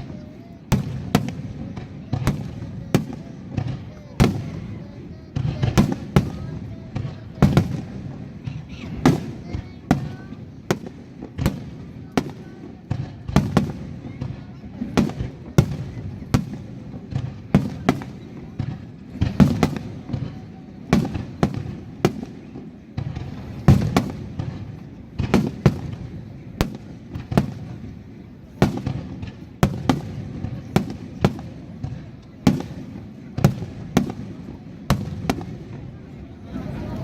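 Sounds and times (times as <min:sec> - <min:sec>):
fireworks bangs: 0:00.0 - 0:37.0
low rumble of echoing reports: 0:00.0 - 0:37.0.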